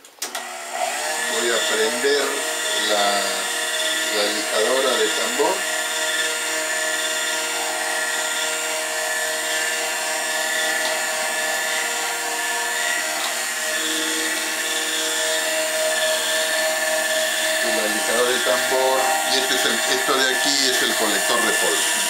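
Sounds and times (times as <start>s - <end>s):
drum sander motor humming: 0.3s - 22.0s.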